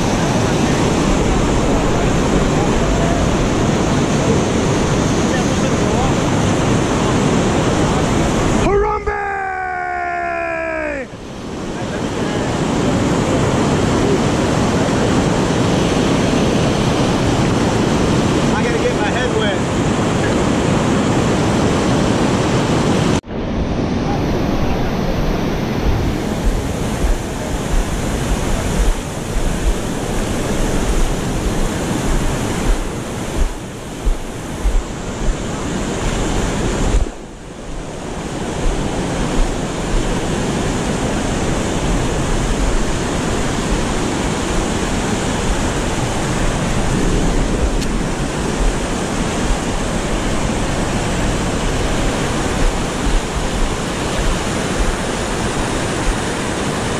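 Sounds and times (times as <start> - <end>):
wind buffeting microphone: 0.0 - 9.1, 11.1 - 56.9
river rapids rushing: 0.0 - 56.9.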